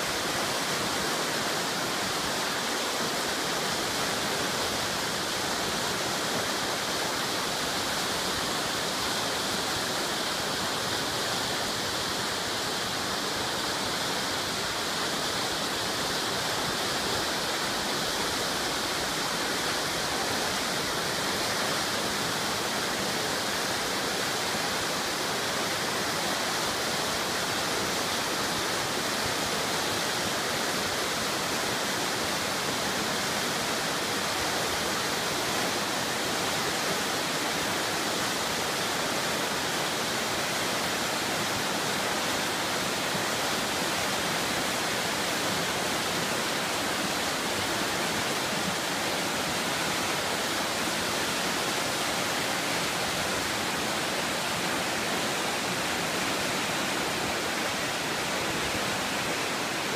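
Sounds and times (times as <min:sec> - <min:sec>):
river rushing over rapids: 0:00.0 - 0:59.9.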